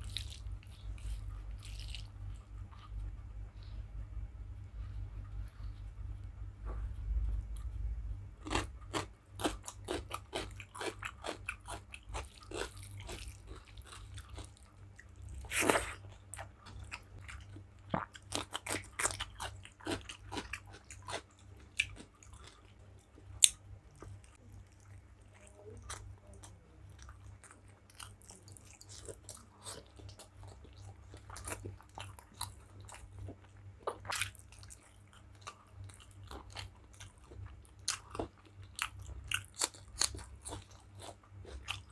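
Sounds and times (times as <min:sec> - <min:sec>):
chewing food: 0:00.0 - 0:03.2, 0:08.4 - 0:41.9.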